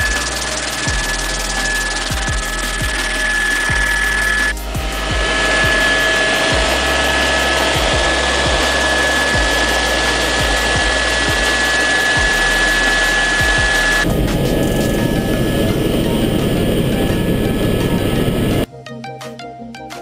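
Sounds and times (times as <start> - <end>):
helicopter engine and rotor noise: 0.0 - 18.7
high-pitched turbine whine: 0.0 - 18.7.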